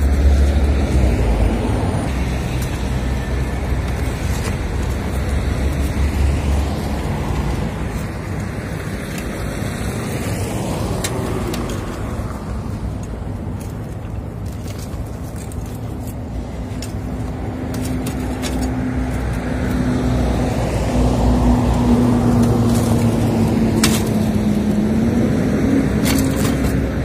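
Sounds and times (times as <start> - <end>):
heavy vehicle engine rumble: 0.0 - 27.0
vehicle passing: 0.0 - 27.0.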